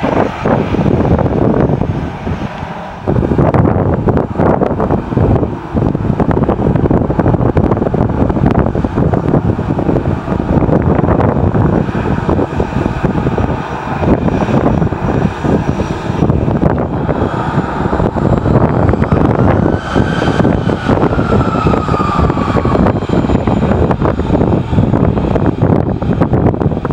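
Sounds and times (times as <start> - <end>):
jet engine high whine: 0.0 - 26.9
jet engines rumbling: 0.0 - 26.9
wind noise on microphone: 0.0 - 26.9.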